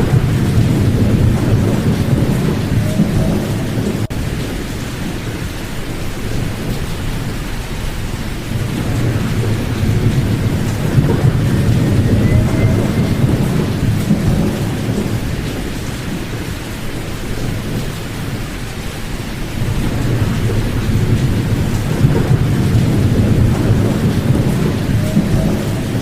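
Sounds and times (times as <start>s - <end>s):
deep low rumbling noise: 0.0s - 5.3s, 6.5s - 16.6s, 19.4s - 26.0s.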